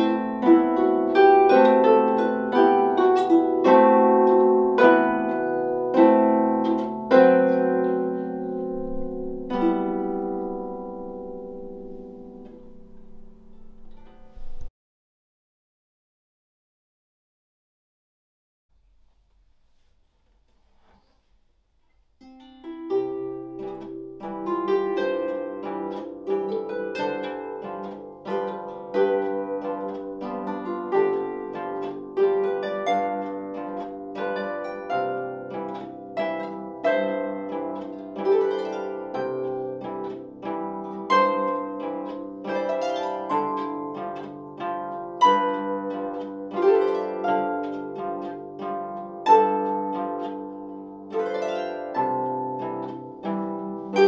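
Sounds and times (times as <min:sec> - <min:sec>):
harp waltz: 0:00.0 - 0:14.7, 0:22.2 - 0:54.0.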